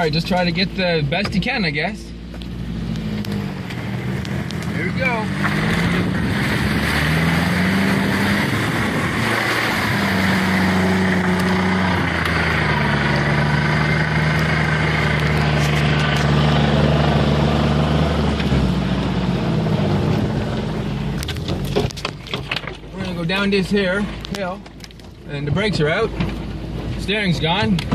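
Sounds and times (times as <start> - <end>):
rumble of driving noise: 0.0 - 27.9
vehicle engine under load: 0.0 - 27.9.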